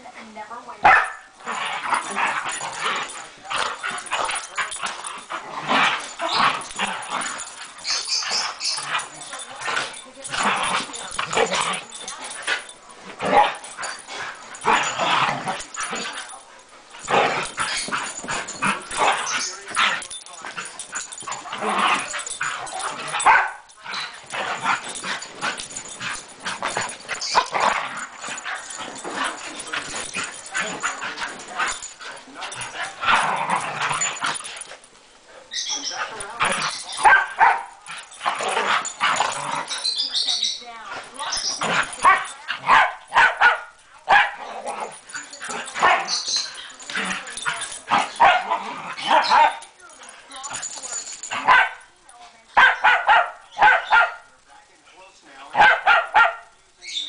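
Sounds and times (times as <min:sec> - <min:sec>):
dogs yipping and barking: 0:00.8 - 0:51.9, 0:52.5 - 0:54.4, 0:55.6 - 0:57.0.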